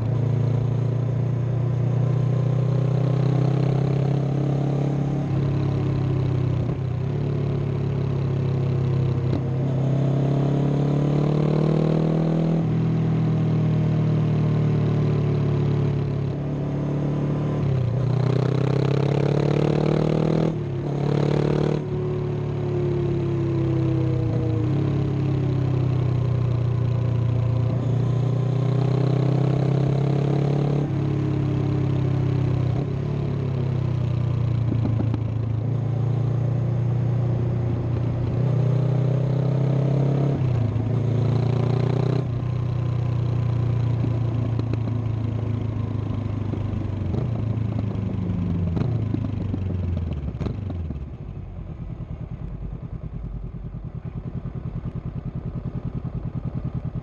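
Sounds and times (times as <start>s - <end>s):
motorcycle engine revving: 1.5s - 57.0s.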